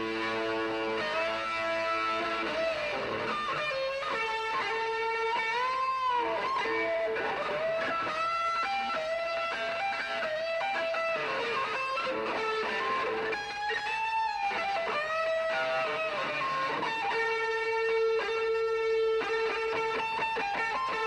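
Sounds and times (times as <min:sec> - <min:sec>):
electric guitar lead with slides: 0:00.0 - 0:21.0
strummed guitar: 0:00.0 - 0:21.0.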